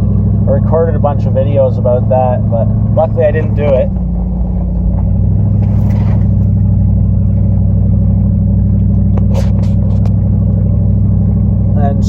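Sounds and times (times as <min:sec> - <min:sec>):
pickup engine under load: 0:00.0 - 0:12.0.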